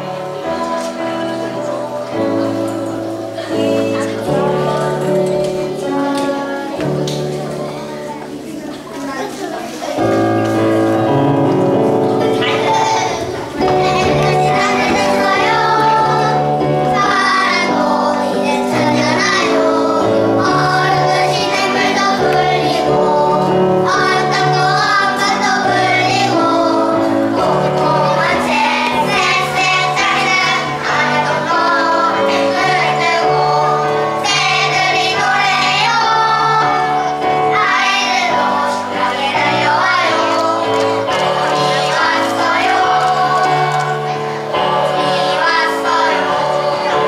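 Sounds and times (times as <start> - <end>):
children singing: 0.0 - 47.0.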